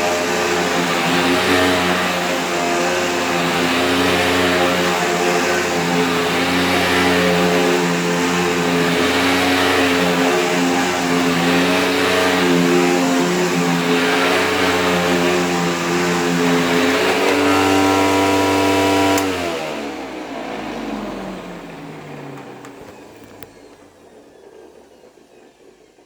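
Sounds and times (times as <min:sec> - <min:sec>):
upright vacuum motor running: 0:00.0 - 0:26.0.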